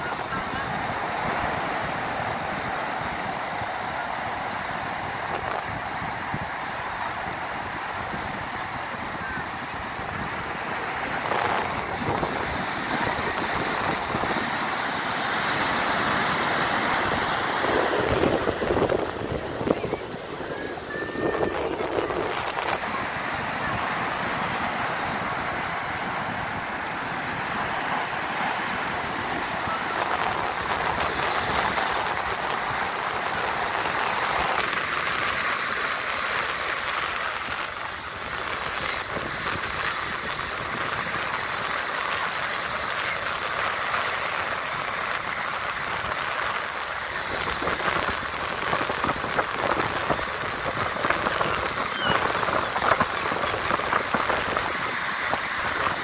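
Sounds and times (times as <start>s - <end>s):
ocean surf breaking on sand: 0.0s - 56.0s.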